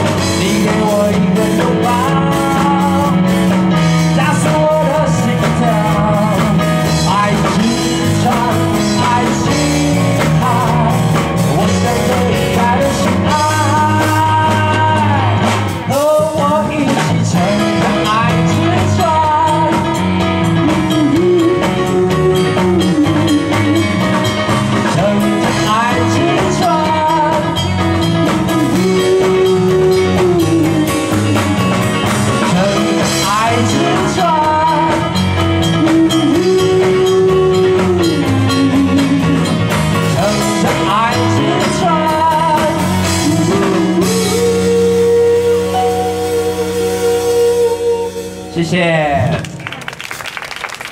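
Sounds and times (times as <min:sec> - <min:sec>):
live pop-rock band playing: 0:00.0 - 0:50.9.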